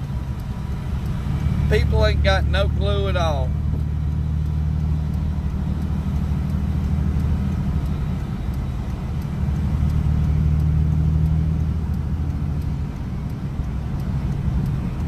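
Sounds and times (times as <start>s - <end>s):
vehicle engine drone and road noise: 0.0s - 15.0s.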